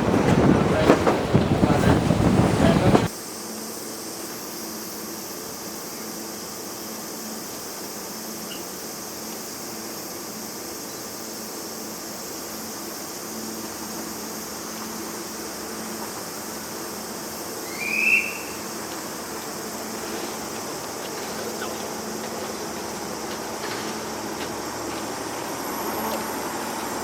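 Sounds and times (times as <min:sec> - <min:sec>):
train coach hum and hiss: 0:00.0 - 0:27.0.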